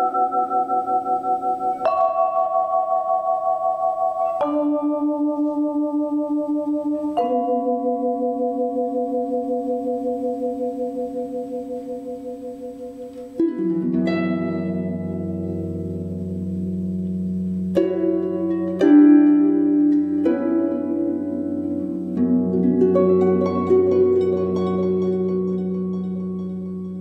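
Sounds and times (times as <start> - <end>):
plucked harp notes: 0.0 - 27.0
sustained wavering chord: 0.0 - 27.0.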